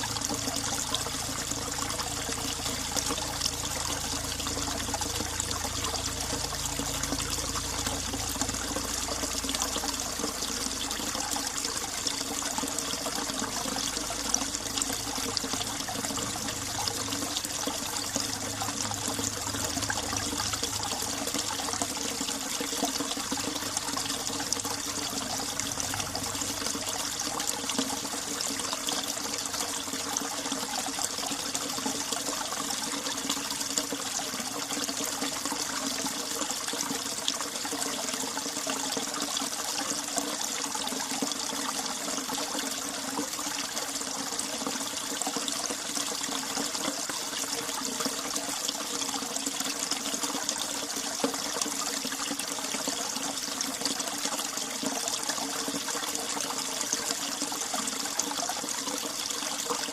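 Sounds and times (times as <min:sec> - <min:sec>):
stream splashing over rocks: 0:00.0 - 0:59.9.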